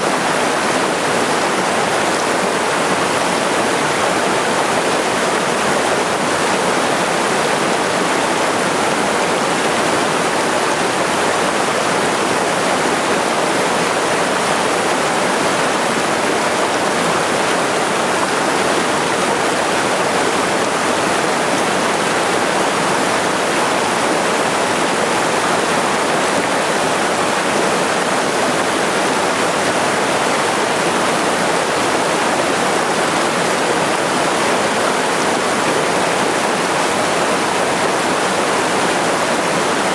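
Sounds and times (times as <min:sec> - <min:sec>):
waterfall rushing into pool: 0:00.0 - 0:39.9.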